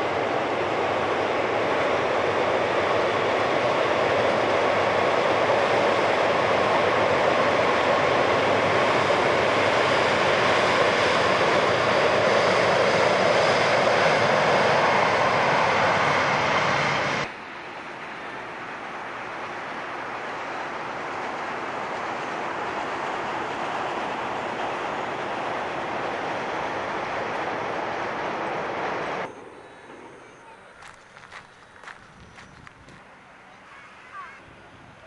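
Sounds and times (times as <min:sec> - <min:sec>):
train rumbling over metal bridge: 0:00.0 - 0:35.0.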